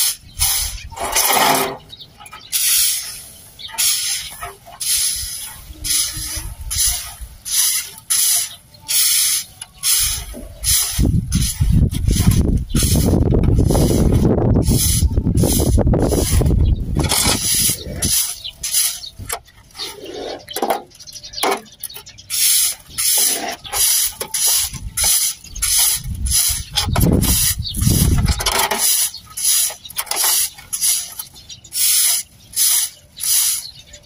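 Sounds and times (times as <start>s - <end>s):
broom sweeping concrete: 0.0s - 20.6s, 21.4s - 34.0s.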